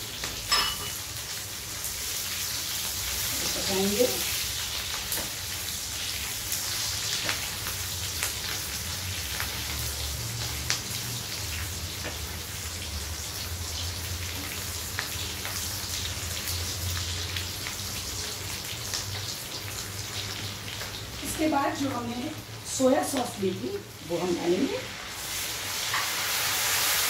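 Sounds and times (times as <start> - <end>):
vegetables sizzling in hot oil: 0.0 - 27.0.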